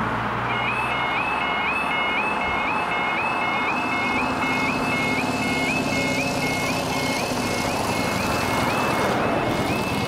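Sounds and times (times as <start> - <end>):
level crossing alarm yelping: 0.5 - 10.0.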